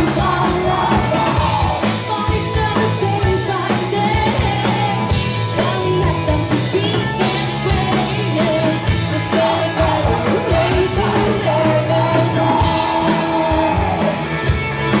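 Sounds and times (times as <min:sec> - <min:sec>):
woman singing into a microphone: 0:00.0 - 0:14.1
bass guitar: 0:00.0 - 0:15.0
drum kit: 0:00.0 - 0:15.0
electric guitars: 0:00.0 - 0:15.0.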